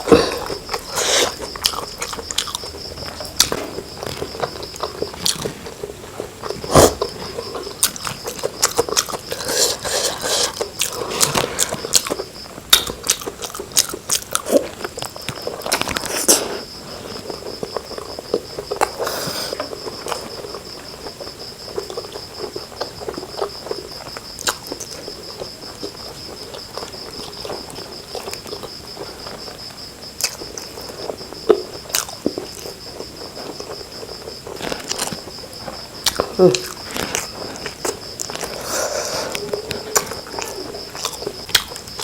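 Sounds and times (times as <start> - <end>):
cricket trilling: 0.0 - 42.0
person chewing food: 0.0 - 42.0.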